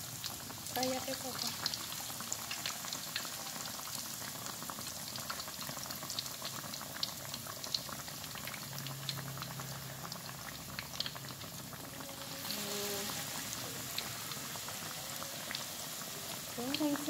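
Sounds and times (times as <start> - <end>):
batter deep-frying in hot oil: 0.0 - 17.0.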